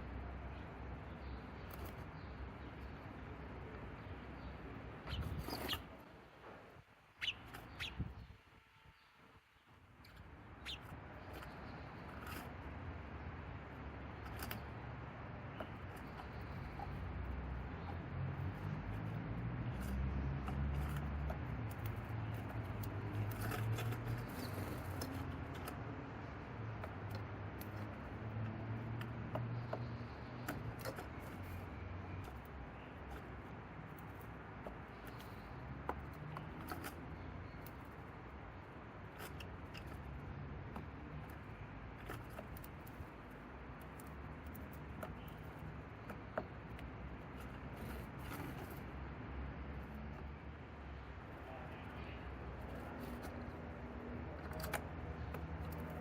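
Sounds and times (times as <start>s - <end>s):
bird pecking and scratching: 0.0s - 56.0s.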